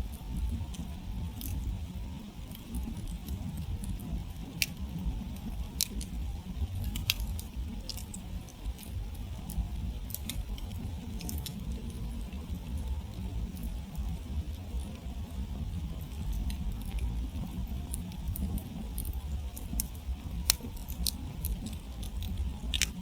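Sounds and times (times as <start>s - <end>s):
campfire crackling and popping: 0.0s - 23.0s
low fire rumble: 0.0s - 23.0s.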